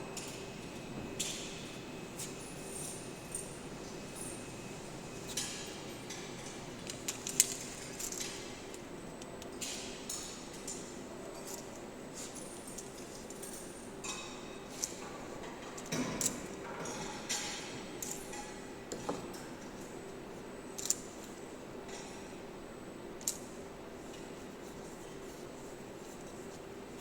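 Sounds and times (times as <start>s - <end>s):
milling spindle hum and whine: 0.0s - 27.0s.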